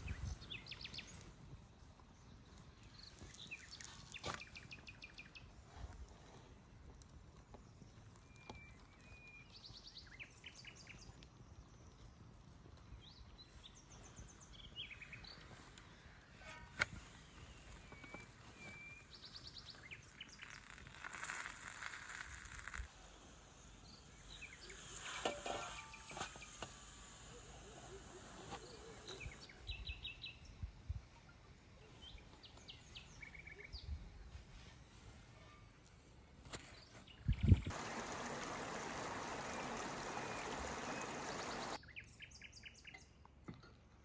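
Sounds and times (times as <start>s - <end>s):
small birds chirping: 0.0s - 5.9s, 7.4s - 43.2s.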